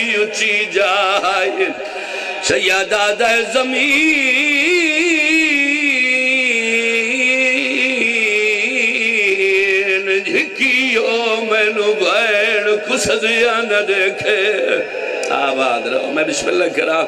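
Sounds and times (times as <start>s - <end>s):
man chanting through a microphone: 0.0s - 17.0s.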